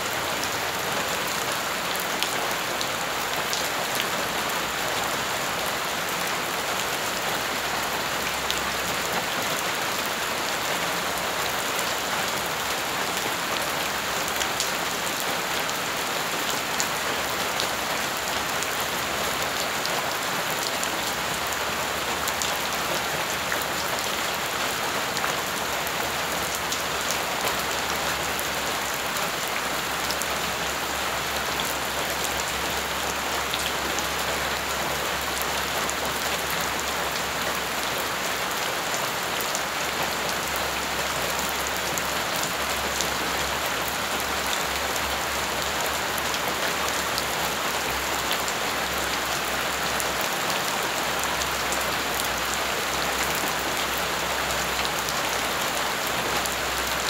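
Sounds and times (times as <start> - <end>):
rain splashing on gravel and puddles: 0.0 - 57.0.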